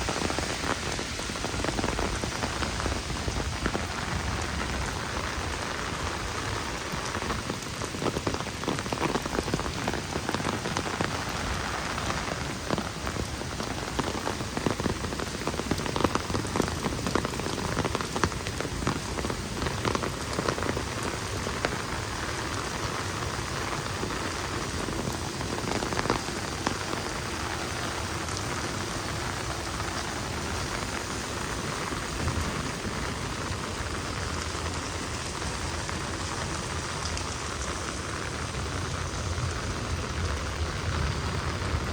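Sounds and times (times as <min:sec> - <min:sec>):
heavy rain patter: 0:00.0 - 0:41.9.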